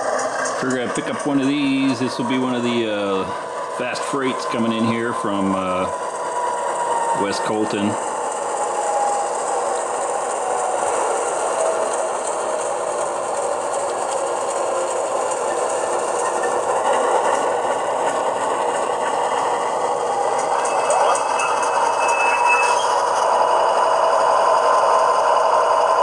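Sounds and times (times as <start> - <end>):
diesel engine sound from small speaker: 0.0 - 26.0.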